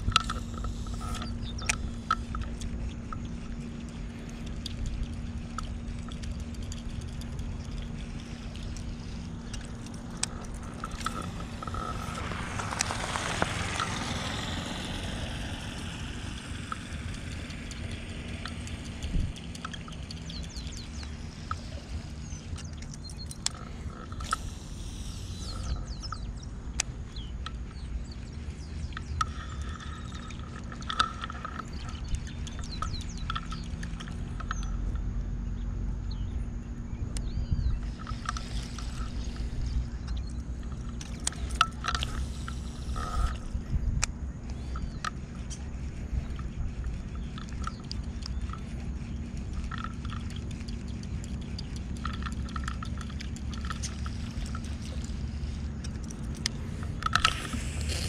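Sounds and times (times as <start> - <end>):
small clicks: 0.0 - 35.2, 37.1 - 58.0
wind rumbling on microphone: 0.0 - 58.0.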